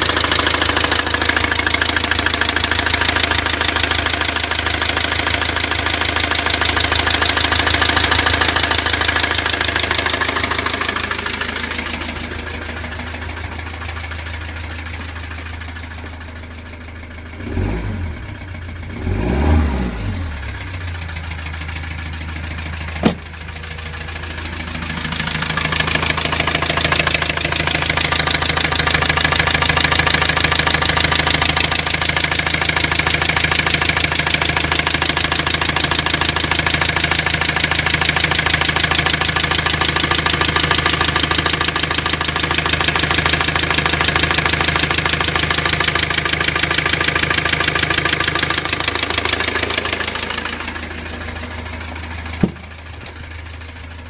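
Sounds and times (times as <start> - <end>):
diesel engine knocking: 0.0 - 54.0.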